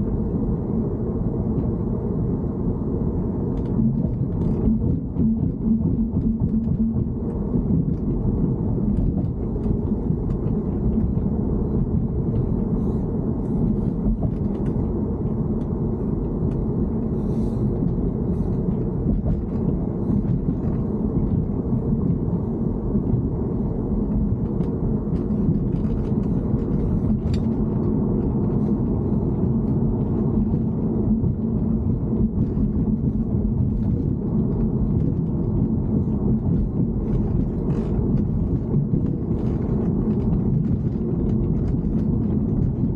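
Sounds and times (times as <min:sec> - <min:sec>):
car interior rumble while driving: 0:00.0 - 0:42.9.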